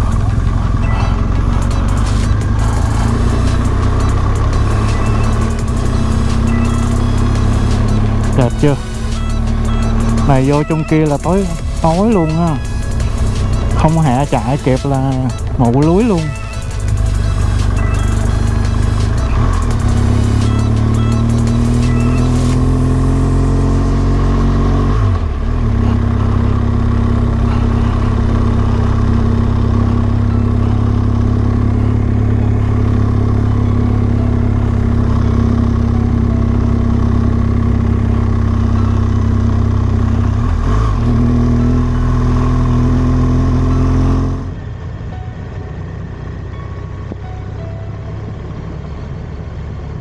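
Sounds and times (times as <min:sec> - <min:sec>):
motorcycle engine under load: 0:00.0 - 0:50.0.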